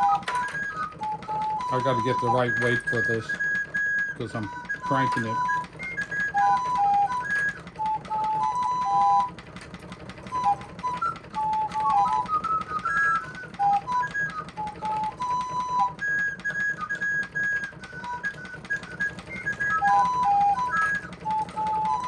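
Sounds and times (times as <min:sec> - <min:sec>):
crank mechanism clicking: 0:00.0 - 0:22.0
flute clock playing a tune: 0:00.0 - 0:22.0.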